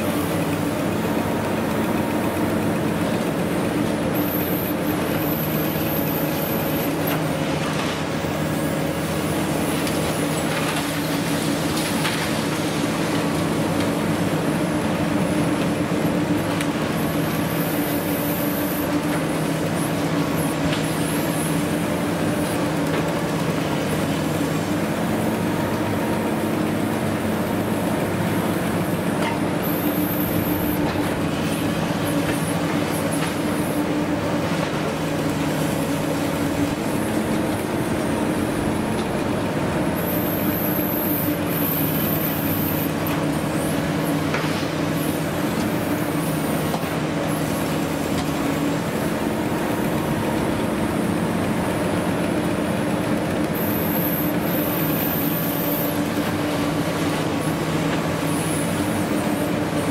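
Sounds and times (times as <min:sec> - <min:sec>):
excavator diesel engine and hydraulics: 0:00.0 - 0:59.9.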